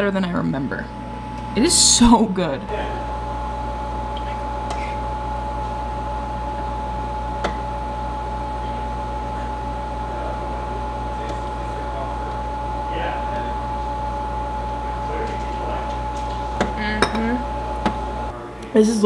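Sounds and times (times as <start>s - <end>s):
ice cream maker motor humming: 0.0s - 19.0s.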